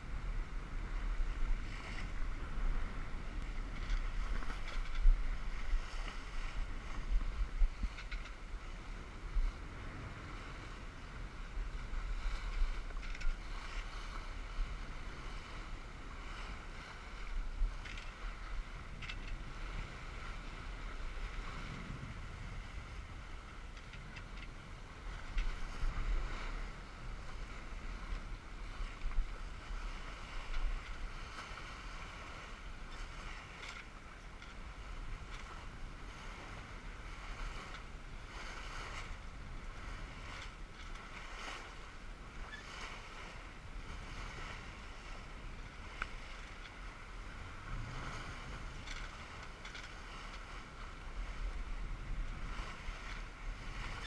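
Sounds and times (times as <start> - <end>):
choppy water splashing on hull: 0.0 - 54.0
wind buffeting microphone: 0.0 - 54.0.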